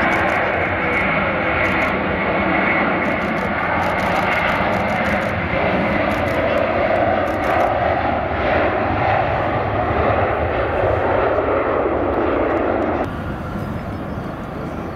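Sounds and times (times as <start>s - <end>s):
jet engines roaring at takeoff: 0.0s - 14.9s.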